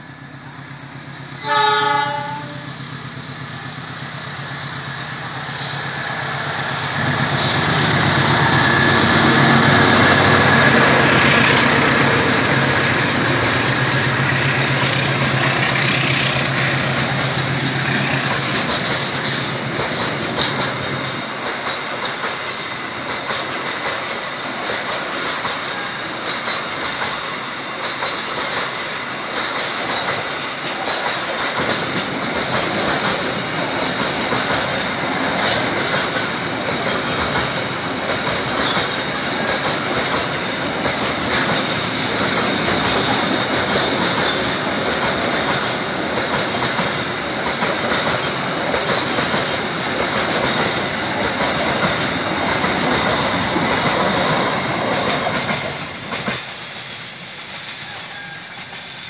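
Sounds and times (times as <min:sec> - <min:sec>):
train wheels rumbling over rails: 0:00.0 - 0:59.0.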